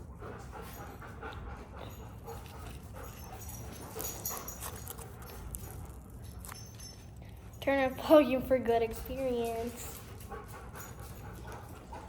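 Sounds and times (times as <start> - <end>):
faint clicks and rustles: 0.2 - 12.0.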